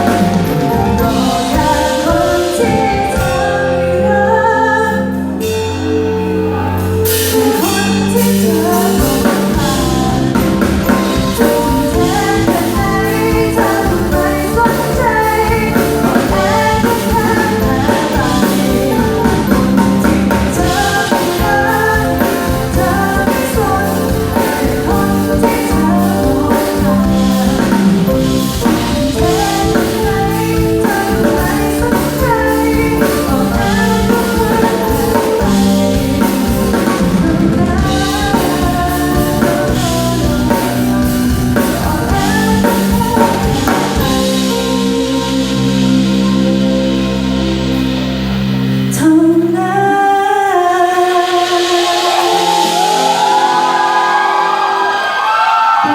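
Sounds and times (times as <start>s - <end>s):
drum kit beat: 0.0s - 4.0s, 6.6s - 46.6s, 51.2s - 55.9s
woman singing pop song: 0.0s - 6.2s, 6.8s - 46.9s, 48.9s - 55.9s.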